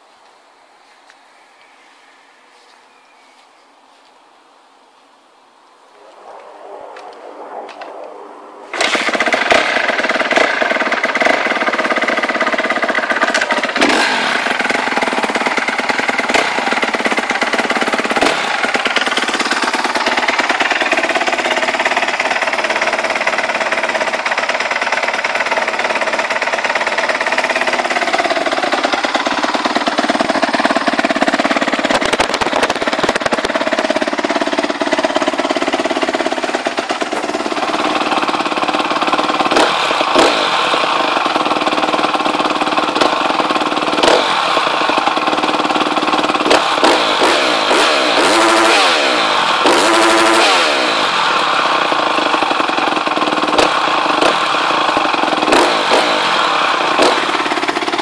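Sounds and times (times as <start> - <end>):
motorcycle engine running: 8.7 - 58.0.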